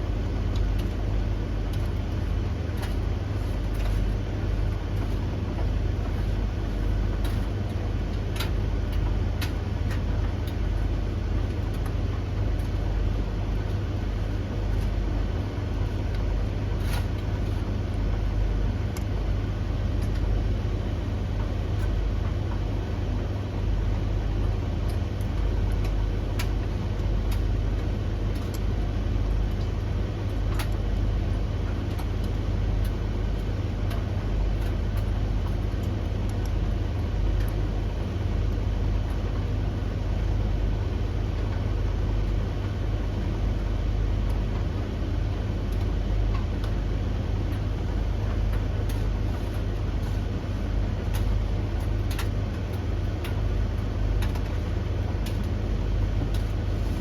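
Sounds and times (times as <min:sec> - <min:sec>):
tumble dryers rumbling: 0:00.0 - 0:57.0.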